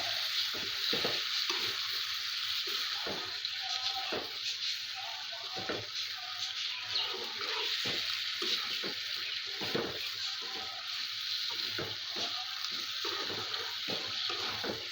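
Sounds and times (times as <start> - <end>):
water running and splashing: 0.0 - 14.9.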